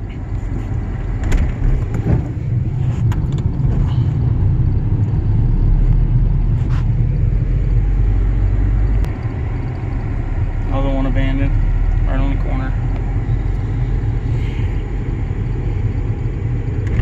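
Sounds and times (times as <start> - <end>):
pickup truck engine and road noise: 0.0 - 17.0.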